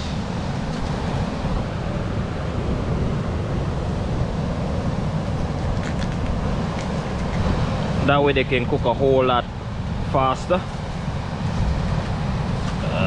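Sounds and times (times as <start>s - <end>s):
surf washing: 0.0s - 13.0s.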